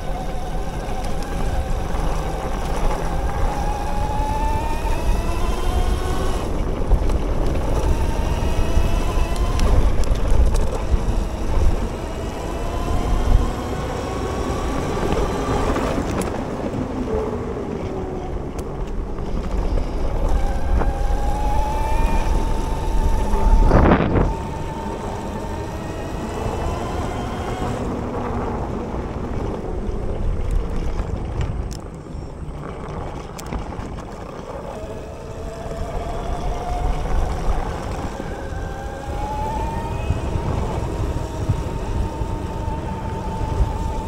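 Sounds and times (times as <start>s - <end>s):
electric bike motor whining: 0.0s - 17.2s, 17.8s - 44.0s
wind rumble on microphone: 0.0s - 44.0s.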